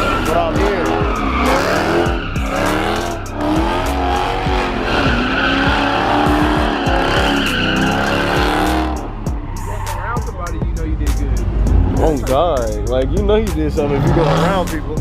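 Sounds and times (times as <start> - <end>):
car engine revving: 0.0 - 15.0
tyres squealing and skidding: 0.0 - 15.0.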